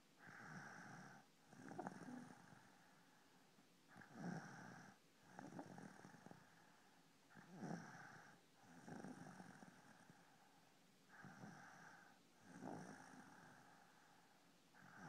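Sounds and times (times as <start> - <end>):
faint snoring: 0.2 - 15.0.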